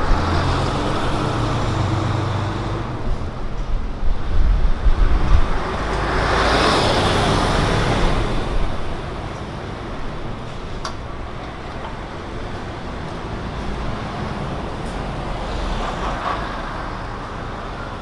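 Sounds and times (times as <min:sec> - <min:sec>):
passing vehicle road noise: 0:00.0 - 0:18.0
vehicle engine humming: 0:00.0 - 0:18.0.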